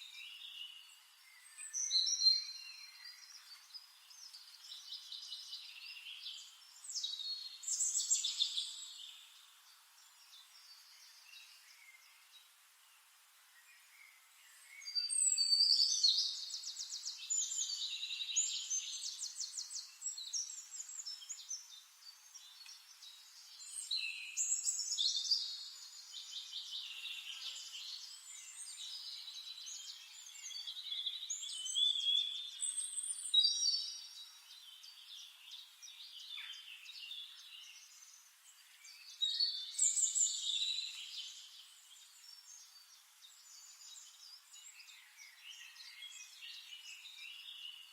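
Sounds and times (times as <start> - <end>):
quiet bird twittering: 0.0 - 12.6, 13.5 - 47.9
songbirds chirping and trilling: 0.0 - 47.9.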